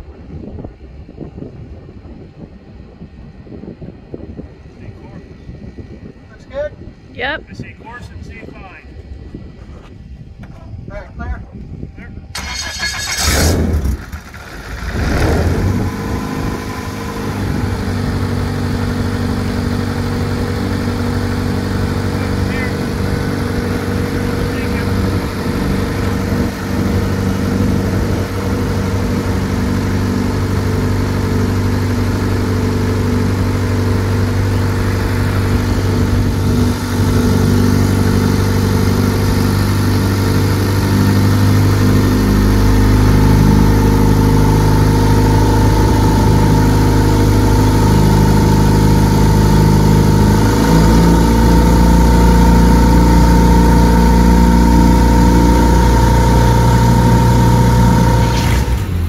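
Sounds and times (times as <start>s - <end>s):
aircraft engine running: 0.0s - 59.0s.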